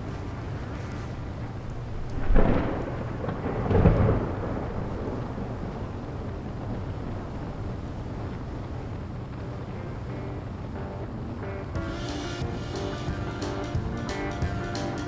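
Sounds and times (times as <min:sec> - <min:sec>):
steady background noise: 0:00.0 - 0:15.0
thunder claps rumbling: 0:00.0 - 0:15.0.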